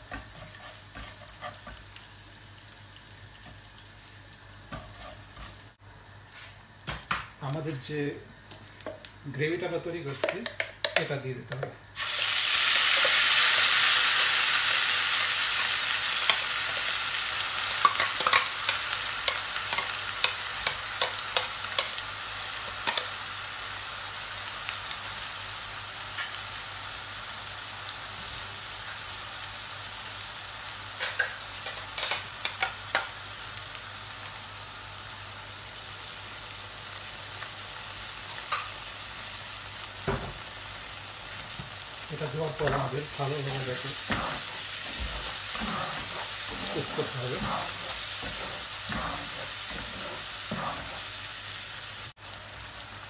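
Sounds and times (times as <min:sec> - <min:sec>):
gravy sizzling in hot oil: 0:00.0 - 0:10.5, 0:11.8 - 0:53.0.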